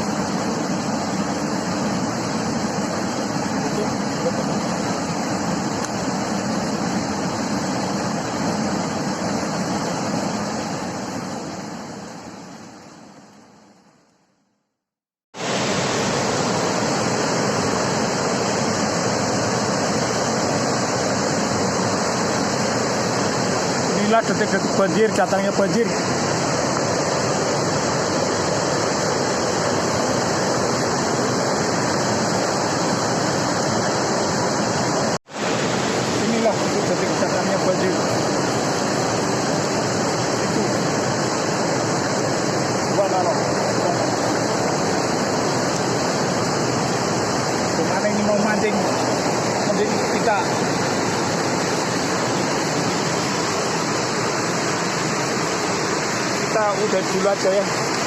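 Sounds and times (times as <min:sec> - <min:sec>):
river water rushing: 0:00.0 - 0:14.1, 0:15.4 - 0:58.0.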